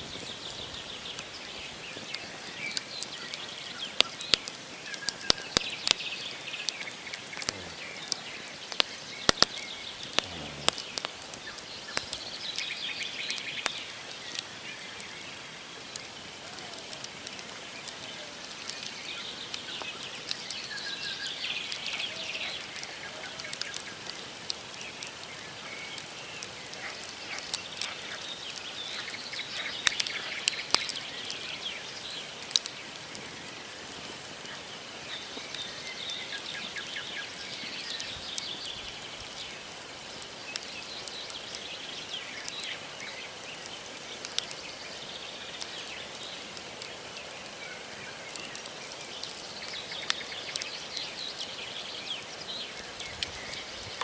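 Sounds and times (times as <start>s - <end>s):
campfire crackling and popping: 0.0s - 54.0s
small birds chirping: 0.0s - 54.0s.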